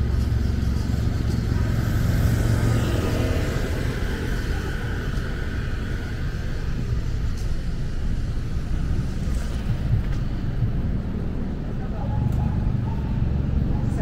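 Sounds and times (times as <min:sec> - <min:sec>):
motorcycle engine: 0:00.0 - 0:14.0
road traffic rumble: 0:00.0 - 0:14.0.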